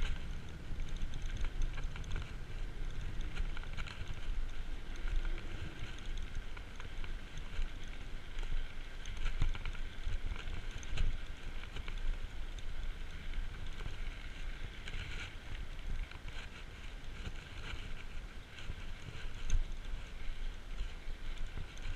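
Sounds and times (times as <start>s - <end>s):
bike rattles and knocks: 0.0s - 21.9s.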